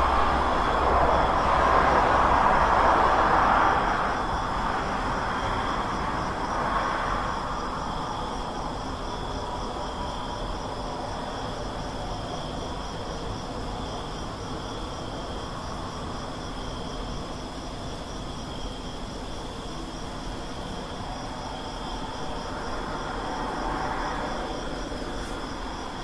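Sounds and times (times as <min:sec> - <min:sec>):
road traffic rumble: 0:00.0 - 0:16.2, 0:19.1 - 0:26.0
insects chirring: 0:00.0 - 0:26.0.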